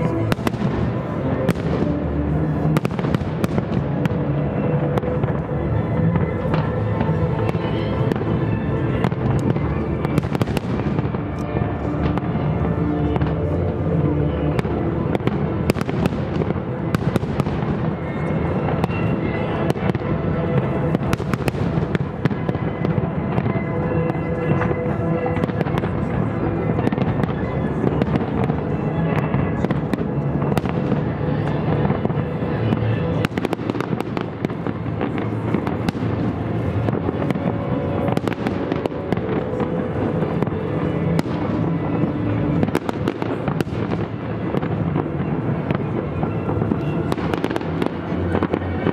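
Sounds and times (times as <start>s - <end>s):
fireworks bursts and booms: 0.0s - 48.9s
music playing: 0.0s - 48.9s.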